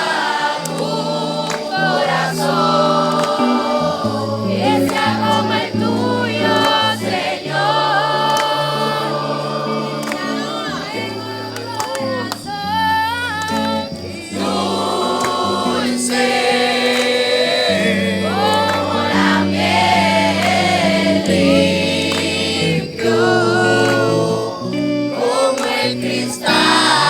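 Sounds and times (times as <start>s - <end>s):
group singing worship song: 0.0s - 27.0s.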